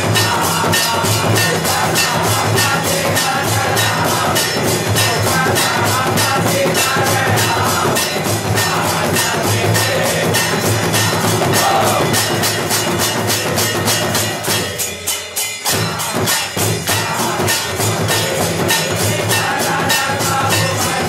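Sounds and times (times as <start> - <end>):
bells and metal percussion: 0.0 - 21.0.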